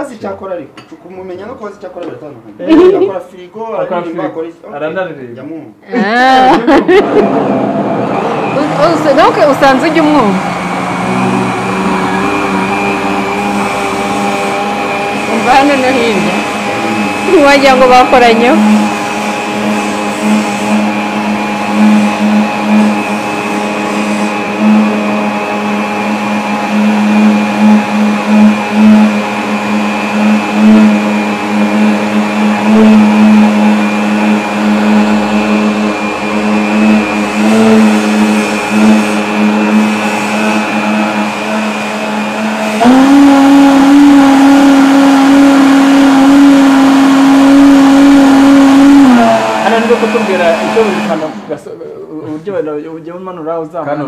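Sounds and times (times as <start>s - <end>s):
electric blender motor running: 6.2s - 51.7s.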